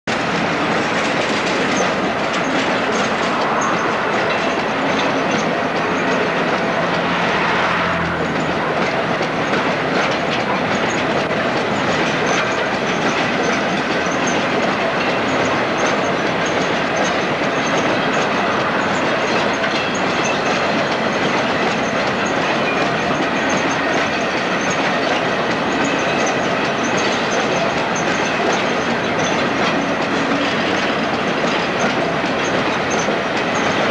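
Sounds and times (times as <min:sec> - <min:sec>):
diesel locomotive engine: 0:00.0 - 0:33.9
wagon wheels clattering: 0:00.1 - 0:33.9.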